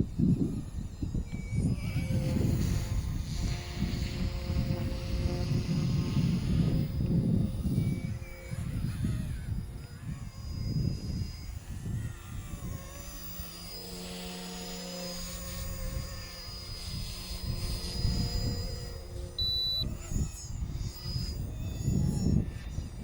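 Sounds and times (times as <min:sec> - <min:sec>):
low steady hum: 0:00.0 - 0:23.0
rc helicopter rotor whine: 0:00.0 - 0:23.0
wind buffeting microphone: 0:00.0 - 0:23.0.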